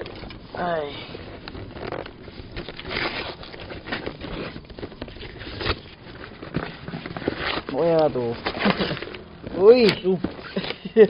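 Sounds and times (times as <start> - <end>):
wrapping paper crinkling and tearing: 0.0 - 11.0.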